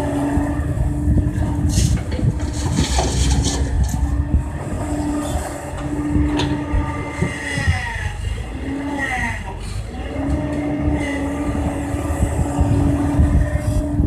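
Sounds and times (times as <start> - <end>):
excavator diesel engine whining: 0.0 - 14.0.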